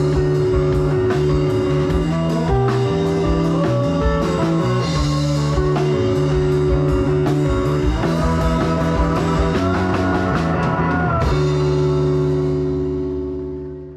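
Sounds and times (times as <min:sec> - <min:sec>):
live rock band: 0:00.0 - 0:13.9.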